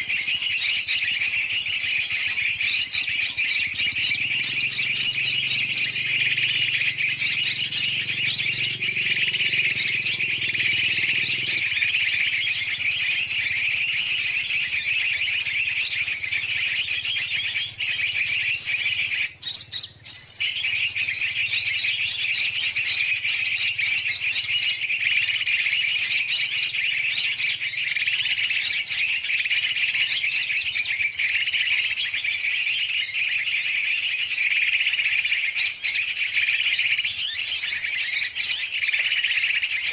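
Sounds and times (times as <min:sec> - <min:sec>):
chorus of chirping birds: 0:00.0 - 0:39.9.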